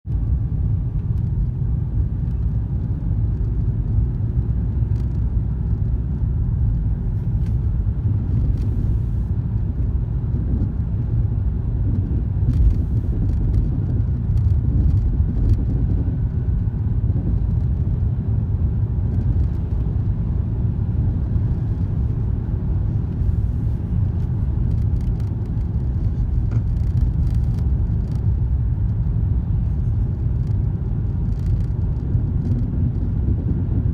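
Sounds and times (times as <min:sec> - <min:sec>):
car rumbling on the move: 0:00.0 - 0:33.9.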